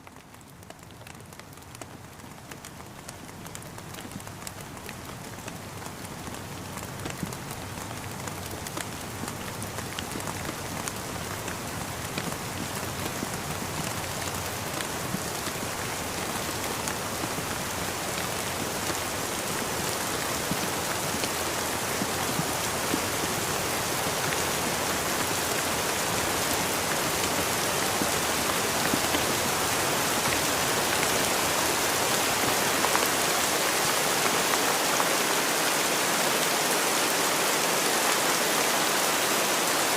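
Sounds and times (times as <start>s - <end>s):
steady rain with drops tapping: 0.0s - 39.9s.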